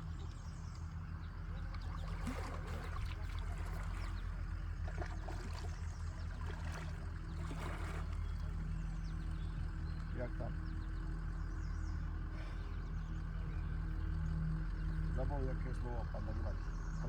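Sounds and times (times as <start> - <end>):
steady low hum: 0.0 - 17.0
water trickling and lapping: 0.0 - 17.0.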